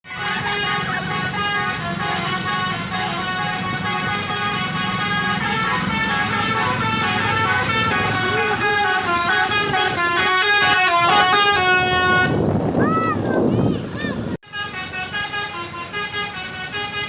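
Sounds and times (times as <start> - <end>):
multi-trumpet bus horn blast: 0.0 - 12.6, 14.4 - 17.0
bus engine running: 0.1 - 17.0.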